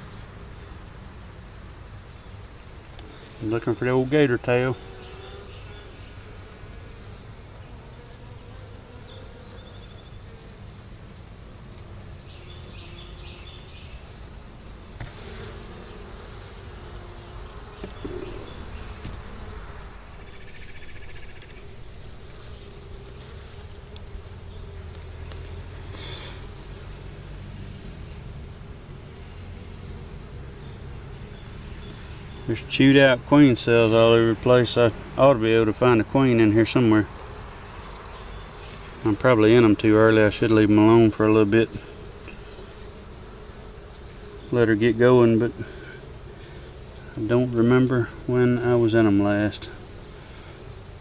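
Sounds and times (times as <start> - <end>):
honey bees buzzing: 0.0 - 51.0.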